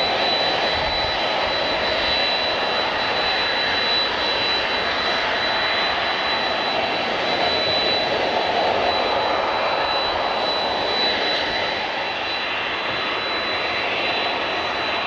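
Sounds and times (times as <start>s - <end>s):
airliner engines rushing: 0.0s - 15.0s
high engine whine: 0.0s - 15.0s.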